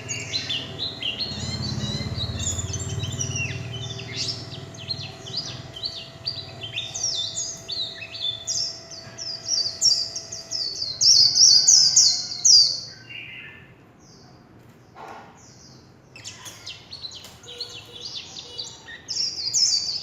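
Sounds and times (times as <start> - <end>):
bird warbling song: 0.0 - 14.2, 15.4 - 20.0.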